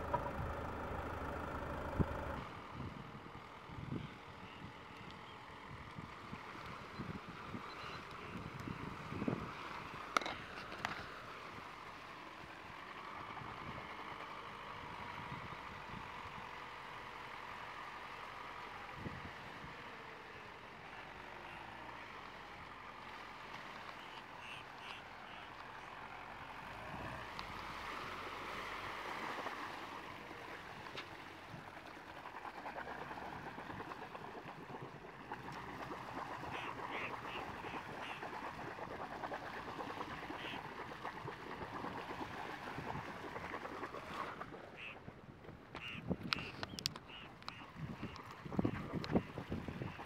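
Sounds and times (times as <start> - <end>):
water splashing around wheels: 0.0 - 3.8, 4.8 - 50.0
car engine running low: 0.0 - 50.0.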